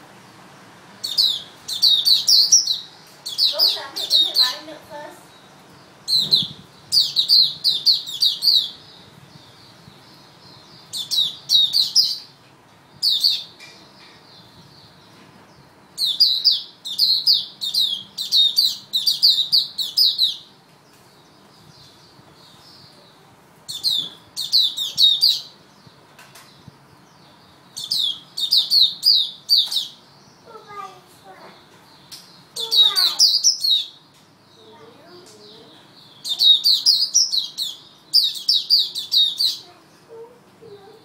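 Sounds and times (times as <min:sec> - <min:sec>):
bird singing rapid high chirps: 0:01.0 - 0:23.1, 0:23.7 - 0:26.0, 0:26.6 - 0:40.2.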